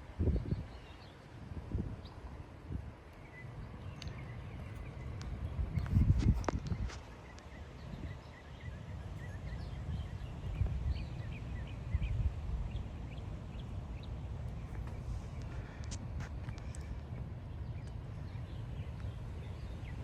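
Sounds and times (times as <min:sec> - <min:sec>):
wind rumbling on microphone: 0:00.0 - 0:20.0
birds chirping: 0:00.2 - 0:20.0.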